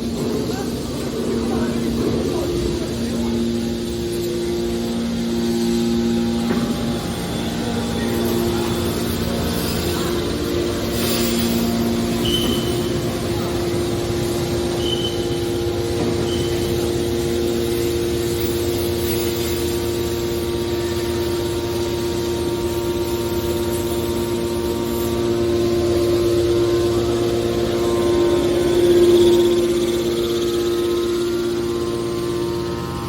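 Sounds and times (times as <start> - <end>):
hydraulic baler motor humming: 0.0 - 33.0.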